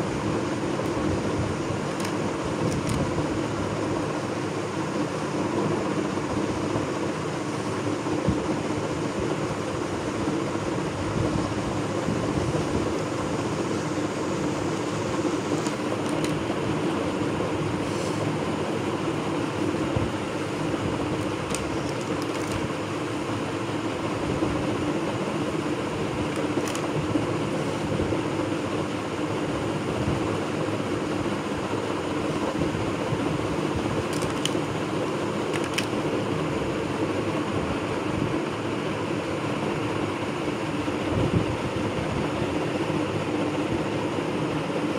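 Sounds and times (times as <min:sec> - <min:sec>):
mechanical hum: 0:00.0 - 0:44.9.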